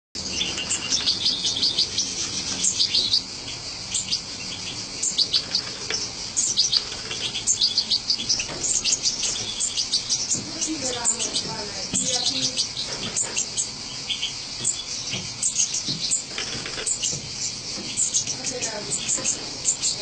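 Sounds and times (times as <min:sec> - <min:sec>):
goldfinches twittering: 0:00.2 - 0:20.0.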